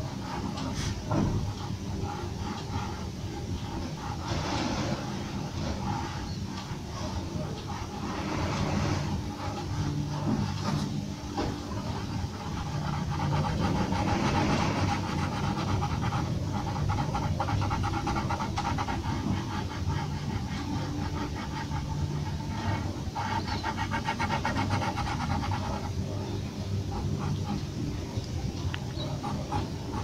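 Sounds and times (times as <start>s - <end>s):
pencil scratching on paper: 0.0s - 28.0s, 28.9s - 30.0s
steady low hum: 0.0s - 30.0s.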